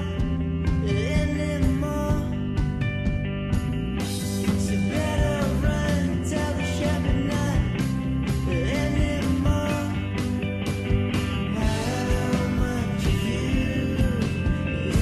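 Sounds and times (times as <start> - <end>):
rock song with singing: 0.0 - 15.0.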